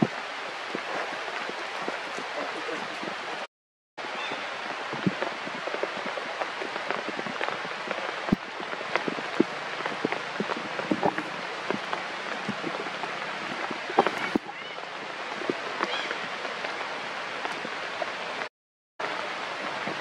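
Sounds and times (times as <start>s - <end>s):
raindrops tapping: 0.0s - 3.5s, 4.1s - 20.0s
rain hiss: 0.0s - 20.0s.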